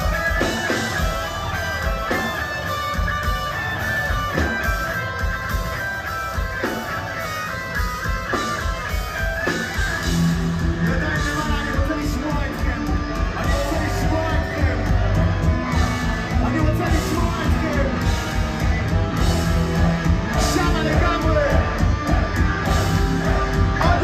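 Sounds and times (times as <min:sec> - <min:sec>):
bass: 0:00.0 - 0:24.0
distorted electric guitars: 0:00.0 - 0:24.0
drums: 0:00.0 - 0:24.0.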